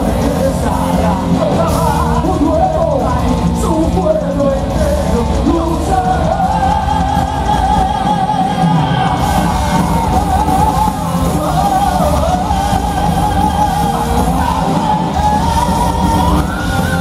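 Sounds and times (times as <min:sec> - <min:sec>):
live heavy metal band: 0:00.0 - 0:17.0
person singing: 0:00.0 - 0:17.0.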